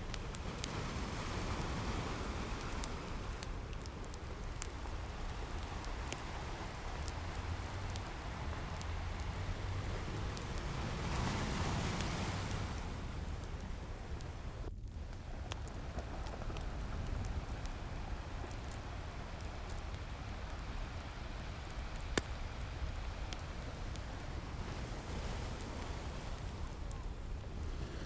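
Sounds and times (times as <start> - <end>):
ocean waves: 0.0 - 14.7, 15.3 - 28.0
wood fire crackling: 0.0 - 28.0.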